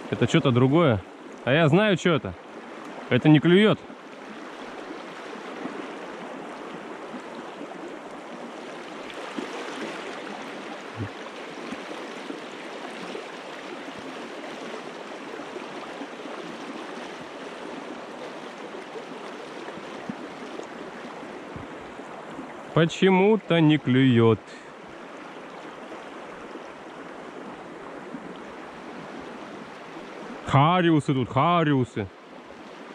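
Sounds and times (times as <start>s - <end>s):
water rushing over stones: 0.0s - 24.8s, 25.4s - 32.9s.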